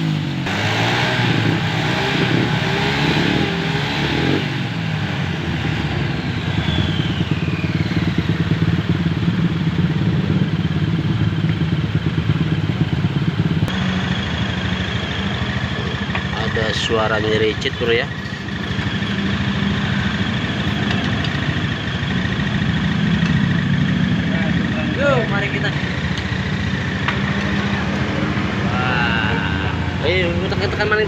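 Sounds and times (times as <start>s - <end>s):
scooter engine idling: 4.6s - 31.0s.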